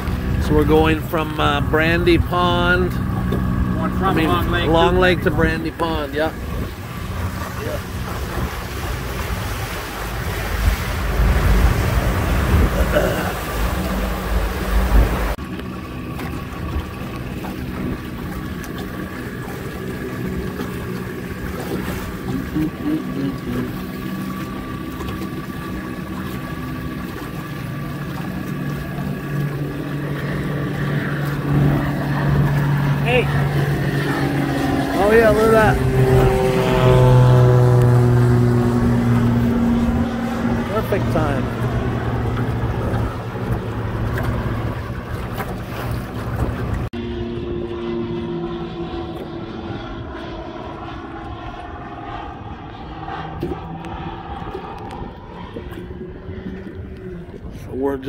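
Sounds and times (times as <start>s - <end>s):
deeper engine note: 0.0s - 58.0s
outboard motor running: 0.0s - 58.0s
water noise: 0.0s - 58.0s.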